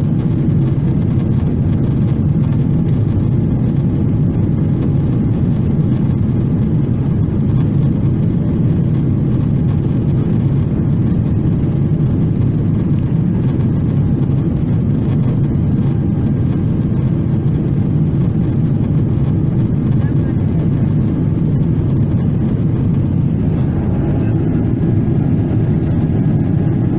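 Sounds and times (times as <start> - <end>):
airplane cabin engine hum: 0.0 - 26.9.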